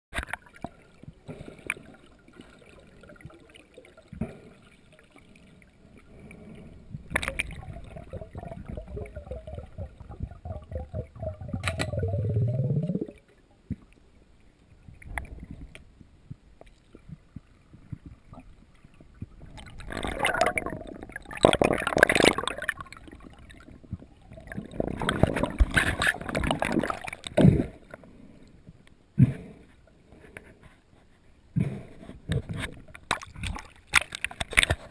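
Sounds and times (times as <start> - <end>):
water gurgling and bubbling underwater: 0.2 - 30.2.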